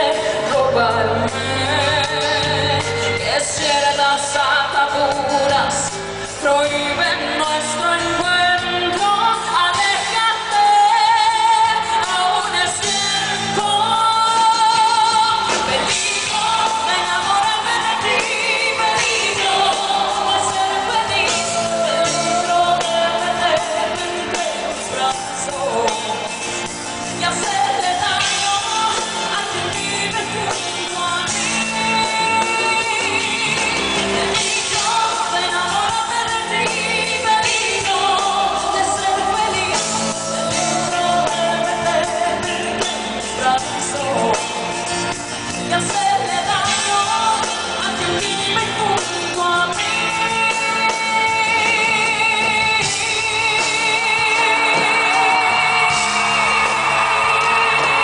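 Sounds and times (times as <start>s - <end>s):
live band playing: 0.0s - 58.0s
woman singing pop ballad: 0.0s - 58.0s.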